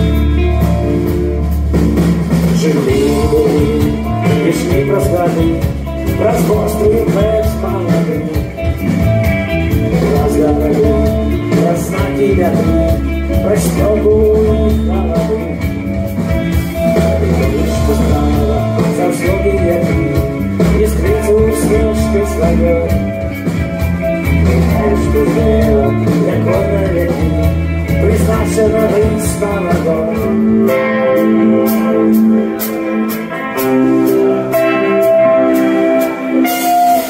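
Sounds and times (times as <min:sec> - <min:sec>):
bass guitar: 0:00.0 - 0:37.0
drums: 0:00.0 - 0:37.0
electric guitars: 0:00.0 - 0:37.0.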